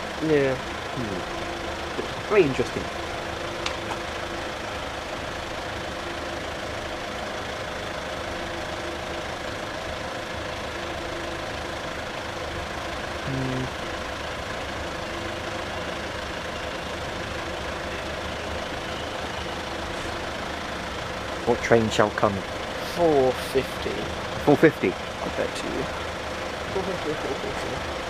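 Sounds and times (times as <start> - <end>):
traffic noise: 0.0 - 28.0.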